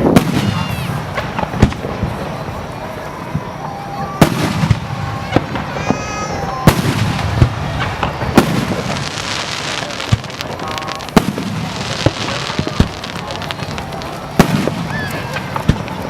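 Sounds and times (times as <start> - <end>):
continuous noisy wash: 0.0 - 16.0
fireworks bangs: 0.0 - 16.0
fireworks popping: 0.0 - 16.0.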